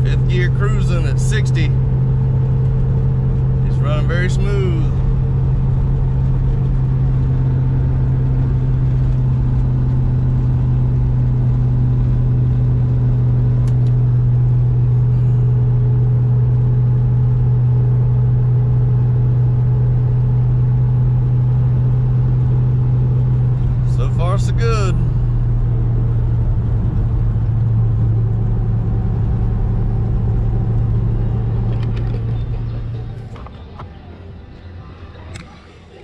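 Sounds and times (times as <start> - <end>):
car engine cruising drone: 0.0 - 36.0
road noise: 0.0 - 36.0.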